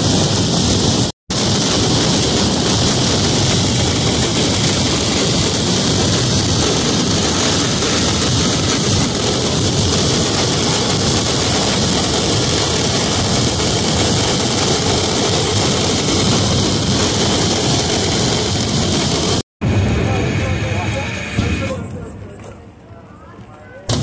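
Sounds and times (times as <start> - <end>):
fireworks barrage: 0.0 - 22.6.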